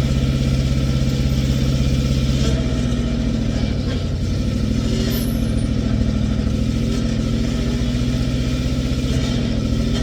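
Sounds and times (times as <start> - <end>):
backhoe engine running steadily: 0.0 - 10.0.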